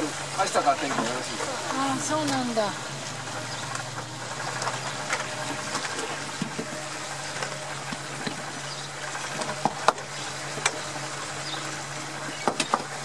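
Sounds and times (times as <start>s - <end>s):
outboard motors humming: 0.0s - 13.0s
water rushing along hull: 0.0s - 13.0s.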